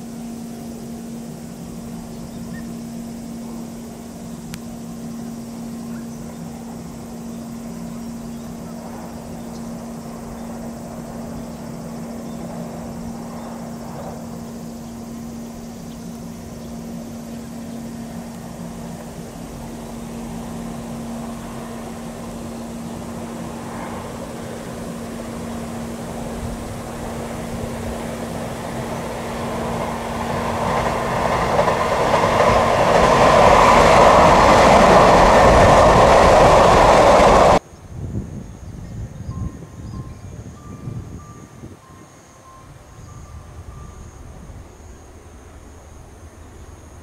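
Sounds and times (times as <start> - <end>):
wheel and rail noise: 0.0 - 37.7
electric train low hum: 0.0 - 47.0.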